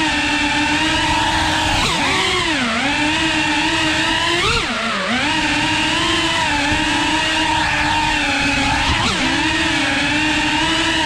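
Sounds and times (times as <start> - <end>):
drone motors and propellers whining: 0.0 - 11.0.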